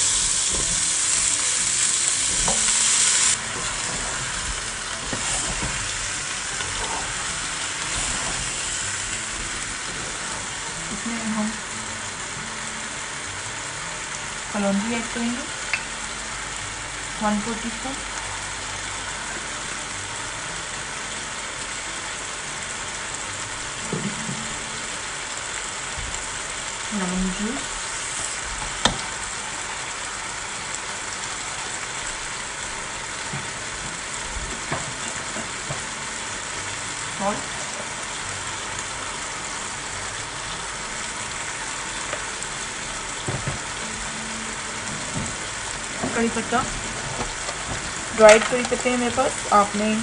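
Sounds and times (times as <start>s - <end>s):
aubergine sizzling in saucepan: 0.0s - 50.0s.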